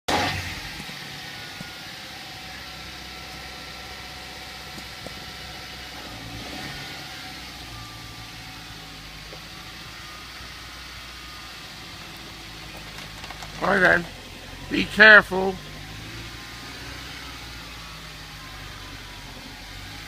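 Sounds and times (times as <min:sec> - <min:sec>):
car engine running: 0:00.1 - 0:20.0.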